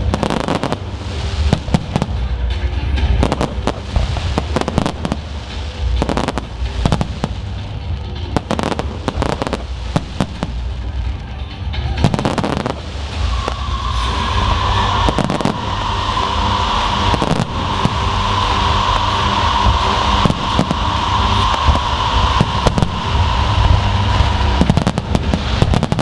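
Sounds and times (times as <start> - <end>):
fireworks bangs and crackles: 0.0 - 26.0
low rumble: 0.0 - 26.0.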